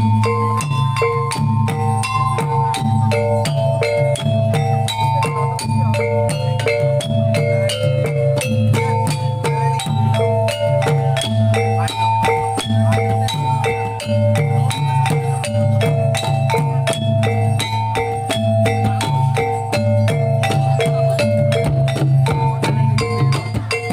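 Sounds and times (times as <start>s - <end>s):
gamelan metal mallet instruments: 0.0s - 23.9s.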